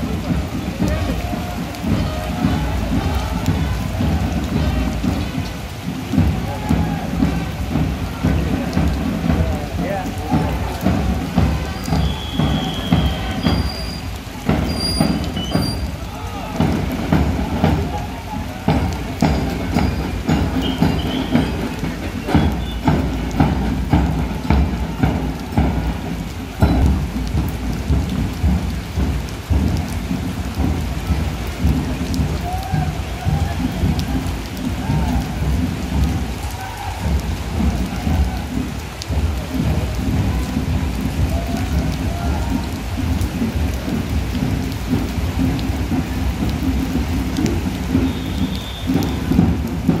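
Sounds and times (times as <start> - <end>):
marching band drums thumping: 0.0 - 50.0
steady rain falling: 0.0 - 50.0.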